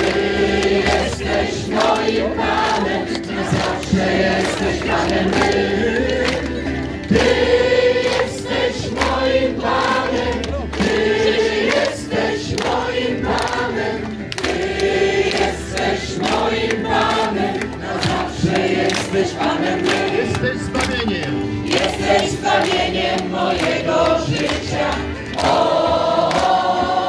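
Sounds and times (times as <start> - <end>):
crowd singing: 0.0 - 27.0
rhythmic hand clapping: 0.0 - 27.0.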